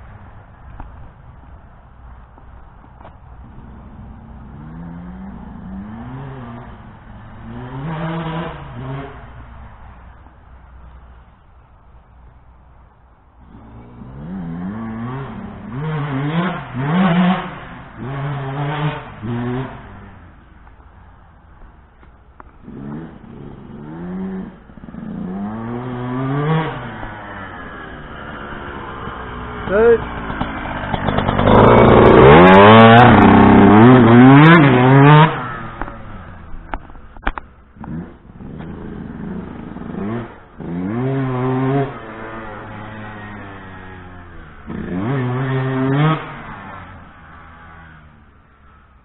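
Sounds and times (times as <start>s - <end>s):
two-stroke motorbike revving: 3.0s - 10.1s, 13.4s - 20.8s, 22.4s - 49.0s
dirt bike engine passing: 3.3s - 11.0s, 13.4s - 49.0s.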